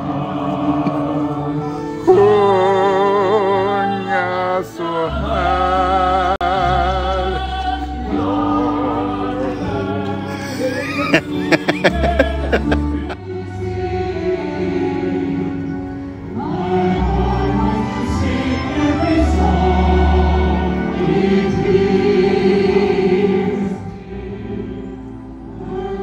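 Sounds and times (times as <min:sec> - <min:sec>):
choir singing held notes: 0:00.0 - 0:26.0
musical accompaniment with bass: 0:00.0 - 0:26.0.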